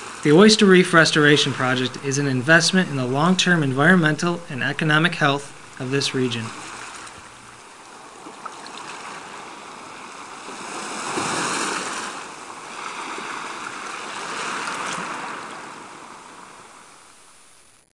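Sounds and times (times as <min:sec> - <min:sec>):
small waves washing: 0:00.0 - 0:17.2
wind: 0:00.0 - 0:17.9.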